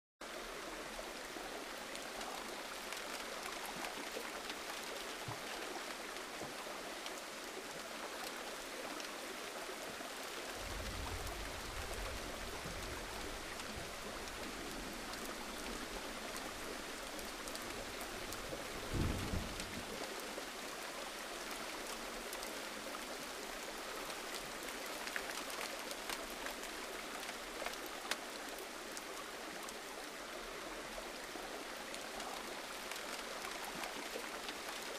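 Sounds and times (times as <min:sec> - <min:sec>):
gentle rain falling: 0:00.2 - 0:34.9.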